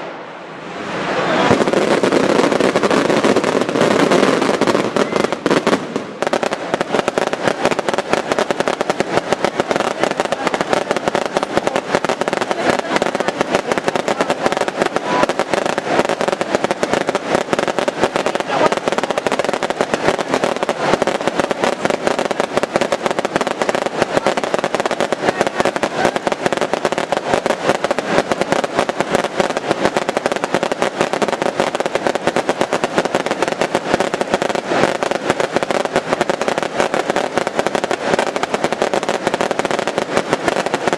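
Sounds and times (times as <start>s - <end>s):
rapid firecracker bangs: 0.0s - 40.9s.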